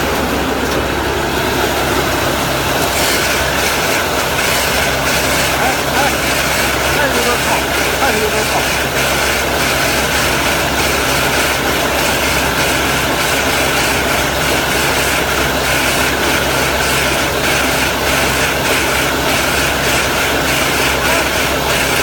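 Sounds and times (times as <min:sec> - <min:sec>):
engine hum: 0:00.0 - 0:22.0
hay baler machinery noise: 0:00.0 - 0:22.0.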